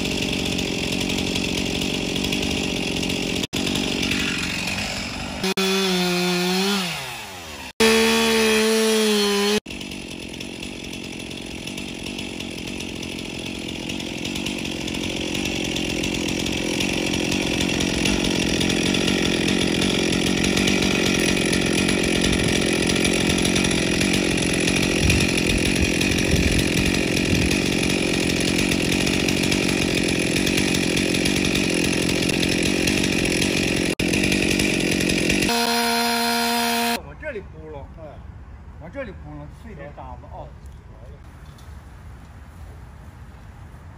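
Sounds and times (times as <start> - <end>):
chainsaw cutting into stump: 0.0 - 37.0.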